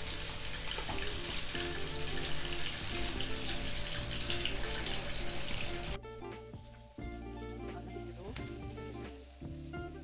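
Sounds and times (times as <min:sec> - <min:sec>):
fish sizzling in a pan: 0:00.0 - 0:06.0, 0:07.1 - 0:10.0
background music: 0:00.0 - 0:10.0.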